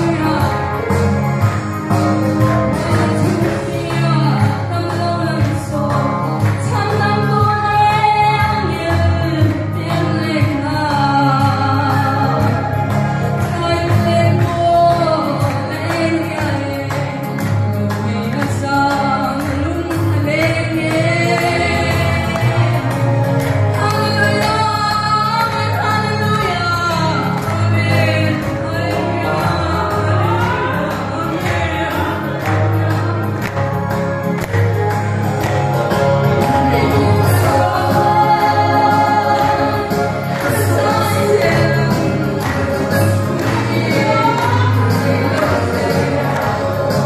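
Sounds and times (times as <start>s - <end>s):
gospel hymn singing: 0.0s - 47.0s.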